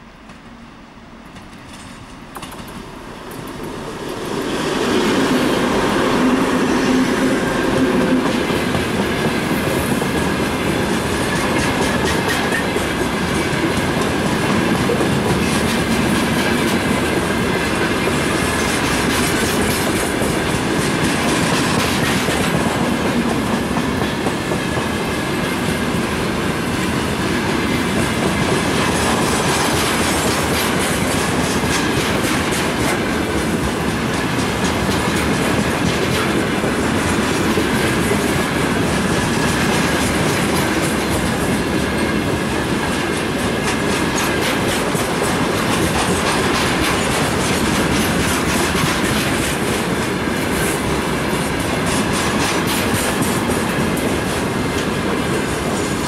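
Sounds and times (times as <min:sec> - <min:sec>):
diesel locomotive engines: 0:00.0 - 0:56.0
train wheels clacking over rail joints: 0:01.3 - 0:56.0.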